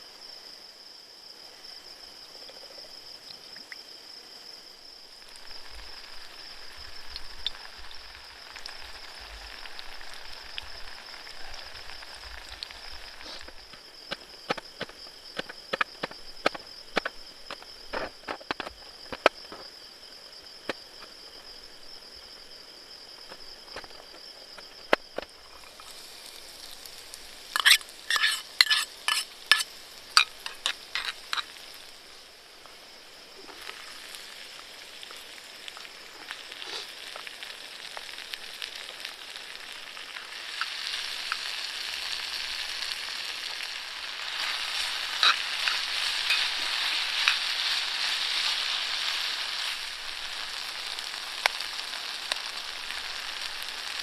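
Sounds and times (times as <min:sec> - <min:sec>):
food sizzling in a pan: 0:01.4 - 0:54.0.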